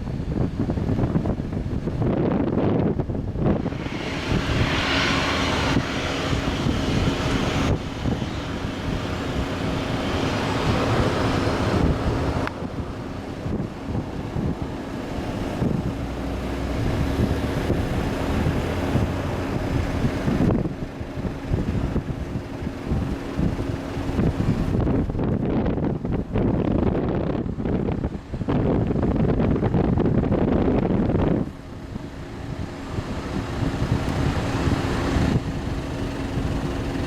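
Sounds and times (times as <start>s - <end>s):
jet engines droning: 0.0s - 37.0s
wind rumbling on microphone: 0.0s - 37.0s.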